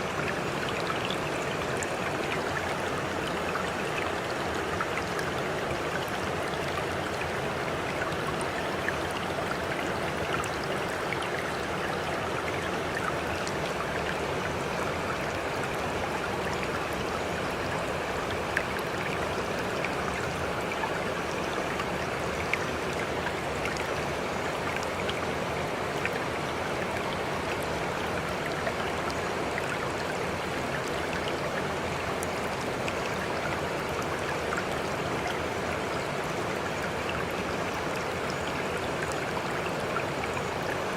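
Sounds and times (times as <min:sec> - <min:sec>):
stream flowing: 0:00.0 - 0:40.9
water splashes and drips: 0:00.0 - 0:40.9.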